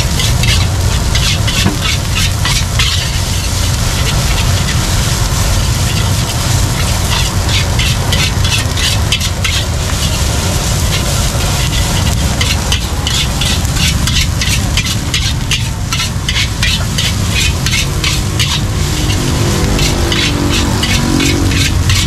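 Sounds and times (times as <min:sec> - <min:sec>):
low rumble: 0:00.0 - 0:22.0
metal spatula scraping a wok: 0:00.0 - 0:22.0
rice sizzling: 0:00.0 - 0:22.0.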